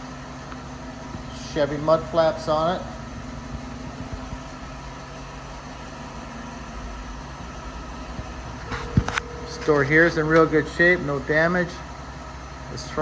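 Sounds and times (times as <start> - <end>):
car engine idling: 2.0 - 12.6.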